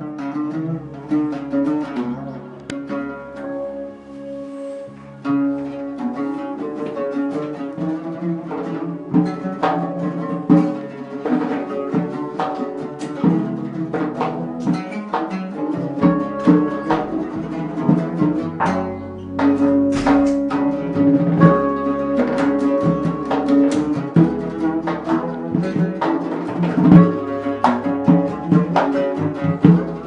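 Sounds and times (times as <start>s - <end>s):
plucked string music: 0.0s - 30.0s.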